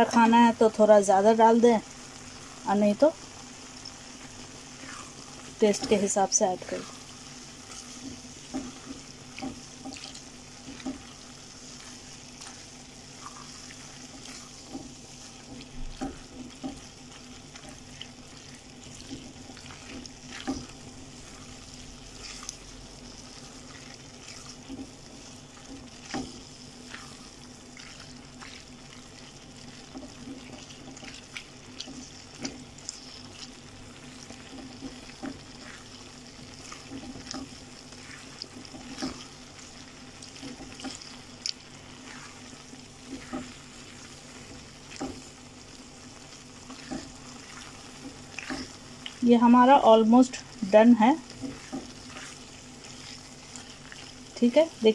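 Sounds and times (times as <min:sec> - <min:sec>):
sauce sizzling in a pan: 0:00.0 - 0:54.9
spatula scraping and tapping pan: 0:06.8 - 0:45.4, 0:46.3 - 0:49.2, 0:51.2 - 0:54.2.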